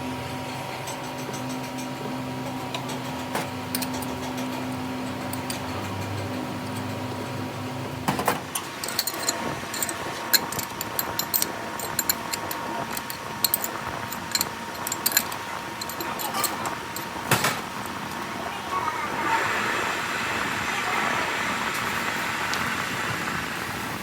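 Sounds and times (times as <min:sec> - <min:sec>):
motor hum: 0:00.0 - 0:24.0.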